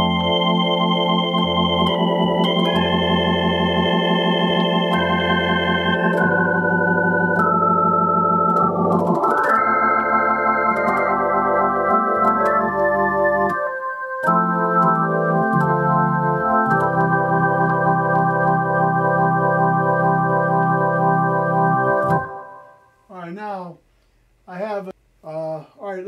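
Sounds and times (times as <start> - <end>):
low bass notes: 0.0 - 22.4
organ chords with rotary shimmer: 0.0 - 22.9.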